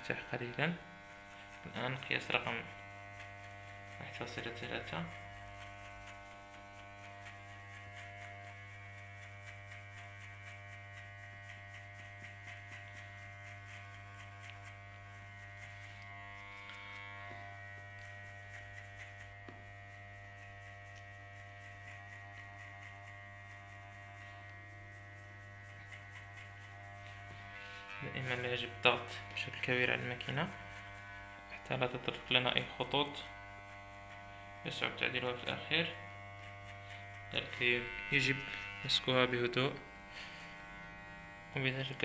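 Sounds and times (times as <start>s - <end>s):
hair clipper buzzing: 0.0s - 42.0s.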